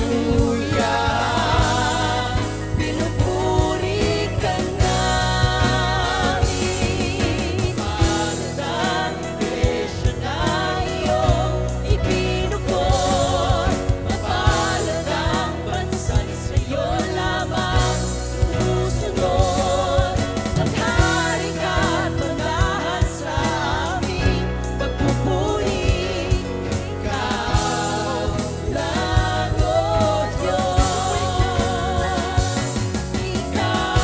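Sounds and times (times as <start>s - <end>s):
voices singing: 0.0s - 34.0s
worship band playing: 0.0s - 34.0s.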